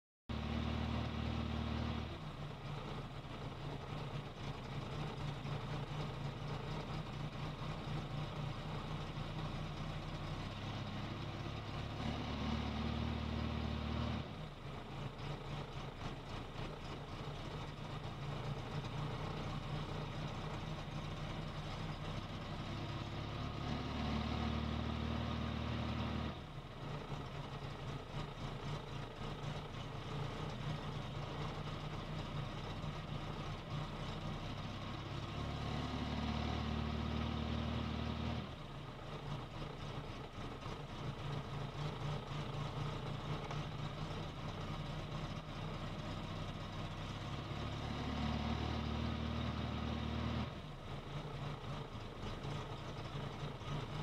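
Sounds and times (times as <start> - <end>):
car engine idling unevenly: 1.5 - 12.0, 14.3 - 23.4, 25.3 - 35.6, 37.2 - 47.7, 50.4 - 54.0.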